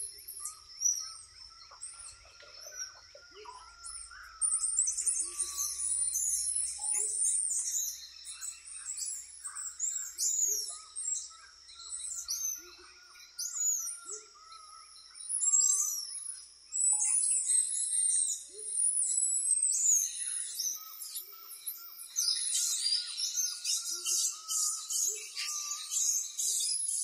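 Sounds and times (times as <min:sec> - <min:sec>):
high chirps and whistles: 0:00.0 - 0:12.8, 0:15.4 - 0:27.0.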